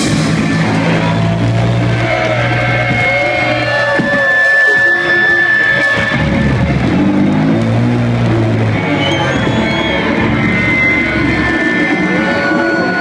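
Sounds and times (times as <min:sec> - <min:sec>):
distorted electric guitars: 0:00.0 - 0:13.0
guitar feedback tones: 0:00.0 - 0:13.0
heavy low bass: 0:00.0 - 0:13.0.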